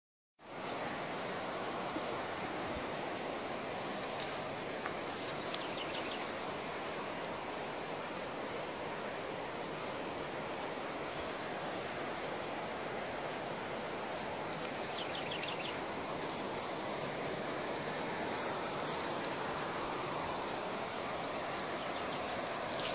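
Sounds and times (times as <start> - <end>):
river rushing over rocks: 0.4 - 22.9
insect trilling: 0.7 - 22.9.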